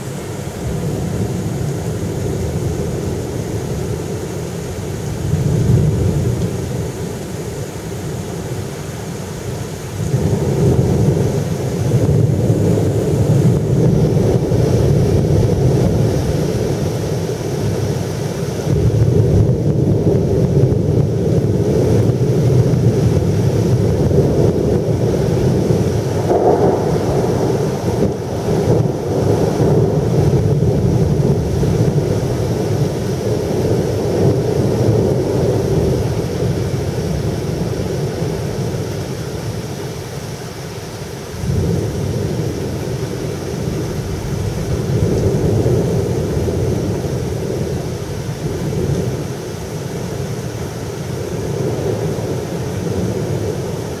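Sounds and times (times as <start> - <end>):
rolling thunder: 0.0 - 8.7, 9.8 - 39.7, 41.4 - 54.0.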